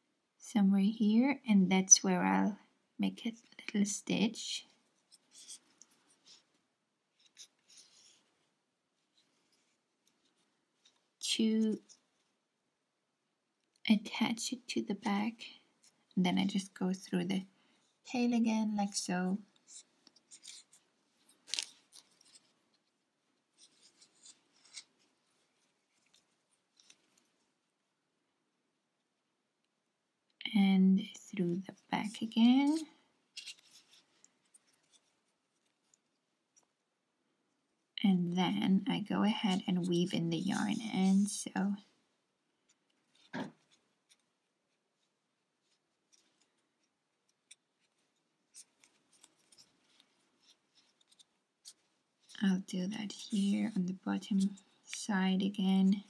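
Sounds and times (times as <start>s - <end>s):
yarn drawn through crocheted fabric: 0.8s - 12.6s, 13.8s - 28.0s, 30.4s - 36.9s, 37.5s - 56.0s.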